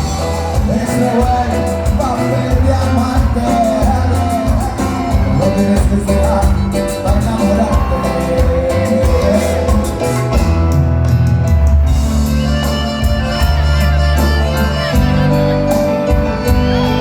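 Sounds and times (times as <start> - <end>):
bass line: 0.0 - 17.0
live band playing: 0.0 - 17.0
percussion beat: 0.0 - 17.0.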